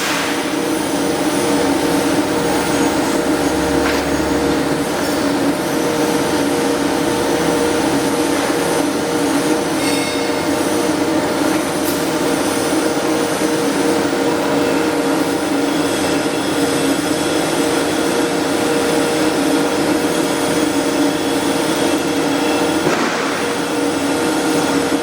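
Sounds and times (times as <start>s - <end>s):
steady hum: 0.0s - 25.0s
welding arc hiss: 0.0s - 25.0s.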